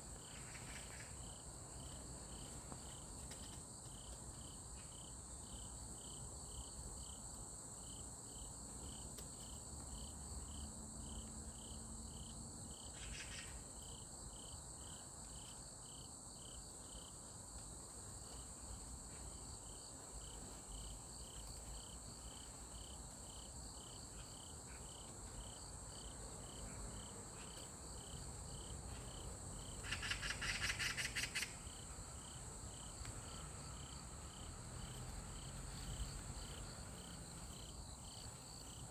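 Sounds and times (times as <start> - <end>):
insect chirping: 0.0 - 17.4, 18.0 - 38.9
insects trilling: 0.0 - 38.9.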